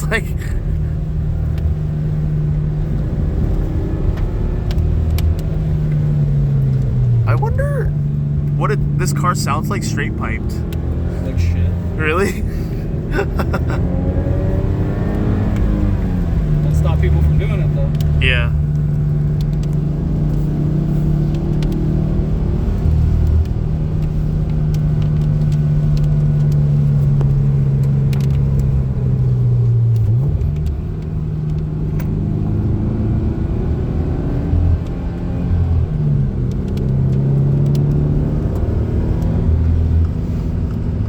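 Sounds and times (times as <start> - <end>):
car engine from inside cabin: 0.0 - 41.0.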